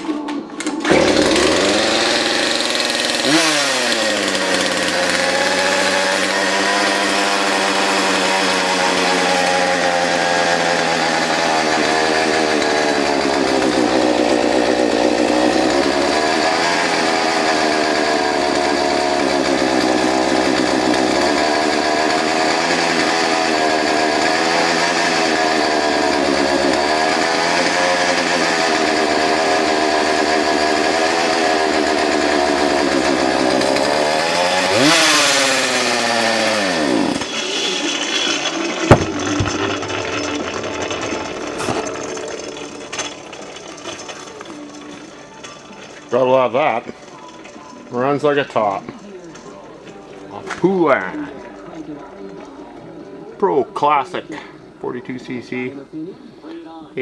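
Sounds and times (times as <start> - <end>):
chainsaw engine idling: 0.8 - 49.4.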